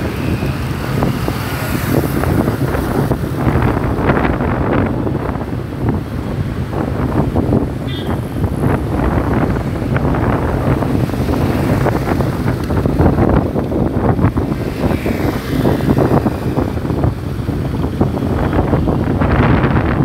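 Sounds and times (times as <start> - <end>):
motorcycle engine: 0.0 - 19.6
road noise: 0.0 - 20.0
wind buffeting microphone: 0.0 - 20.0.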